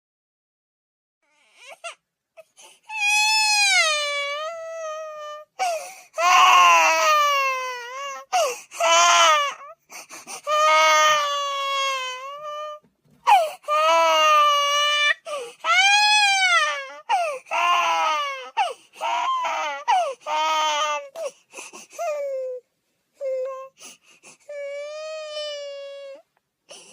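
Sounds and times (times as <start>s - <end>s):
infant crying: 1.3s - 22.6s, 23.2s - 26.9s.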